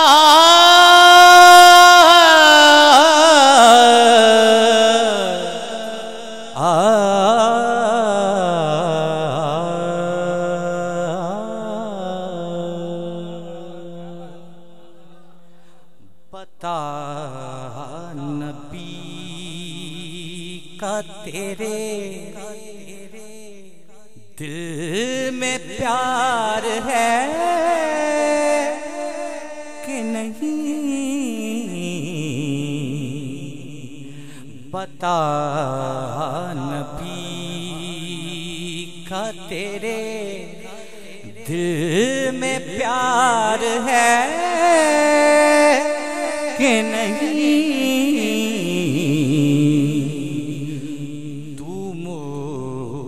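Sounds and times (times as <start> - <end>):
man singing into a microphone: 0.0 - 53.0.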